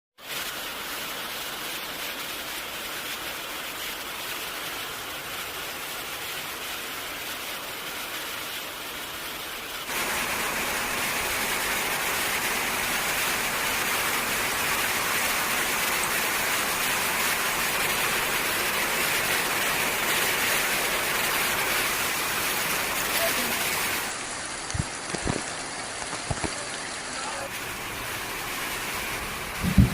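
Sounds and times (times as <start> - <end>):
heavy rain falling: 0.2 - 29.9.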